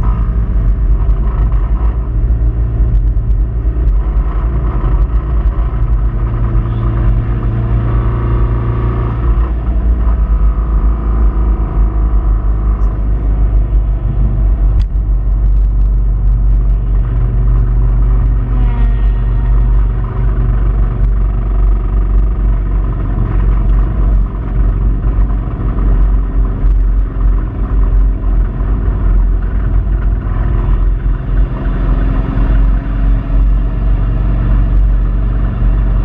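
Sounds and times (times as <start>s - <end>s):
car engine under load: 0.0s - 36.0s.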